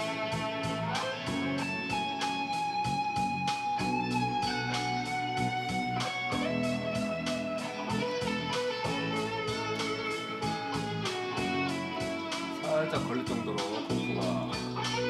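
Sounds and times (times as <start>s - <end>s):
backing track with steady beat: 0.0s - 15.0s
electric guitar solo: 0.0s - 15.0s.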